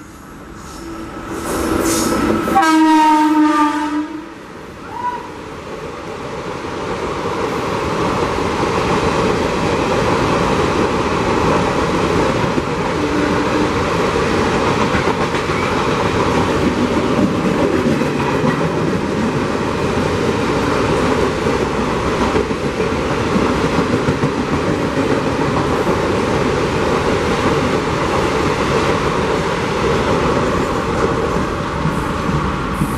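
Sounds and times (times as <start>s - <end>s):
train wheels rushing on rails: 0.0s - 32.9s.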